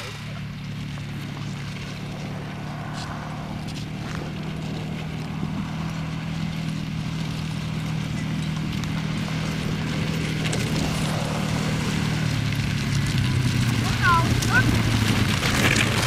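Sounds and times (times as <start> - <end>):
low engine hum: 0.0 - 16.0
skates scraping on ice: 0.9 - 8.2, 8.8 - 16.0.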